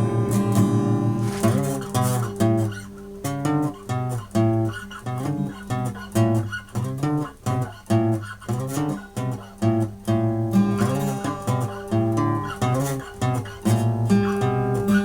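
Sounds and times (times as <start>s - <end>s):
guitar choppy chords: 0.0s - 15.0s.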